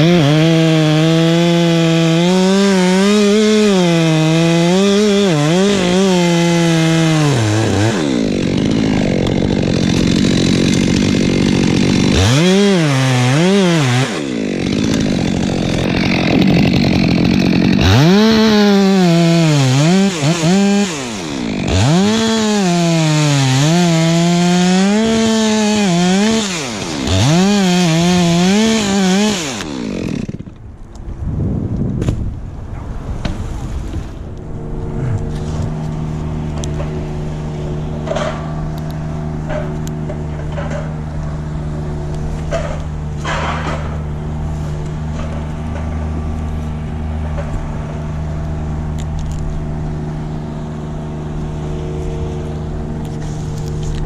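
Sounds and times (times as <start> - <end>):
chainsaw cutting wood: 0.0 - 30.6, 34.9 - 54.0.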